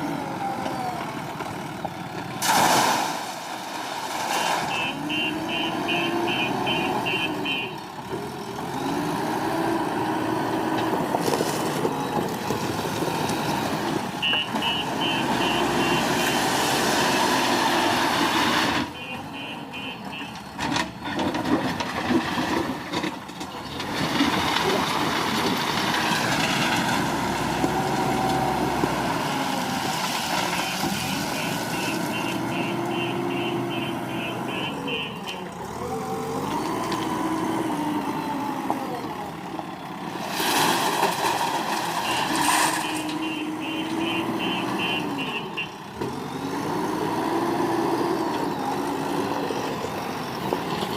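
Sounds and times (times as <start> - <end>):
backhoe diesel engine revving: 0.0 - 2.5, 3.6 - 50.9.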